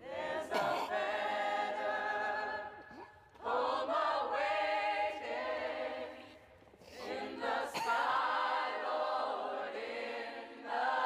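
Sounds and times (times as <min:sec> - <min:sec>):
choir singing sustained notes: 0:00.0 - 0:11.0.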